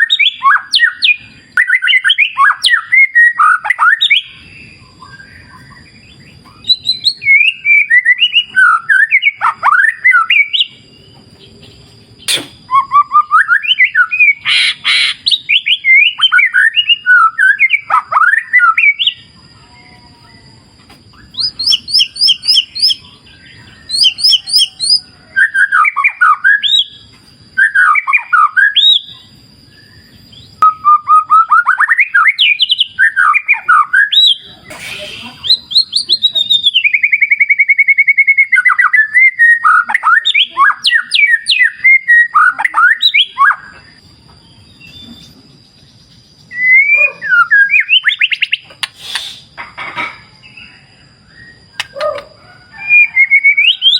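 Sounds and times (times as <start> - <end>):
bird singing whistles and trills: 0.0 - 49.5, 50.4 - 53.9.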